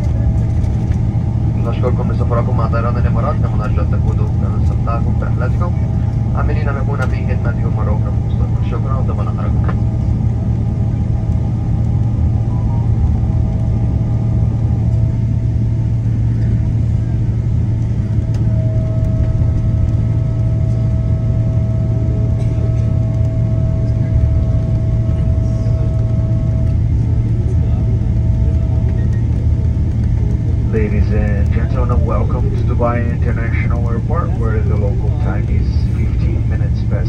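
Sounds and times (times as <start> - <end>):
airplane cabin rumble: 0.0 - 37.0
thin steady whine: 0.0 - 37.0.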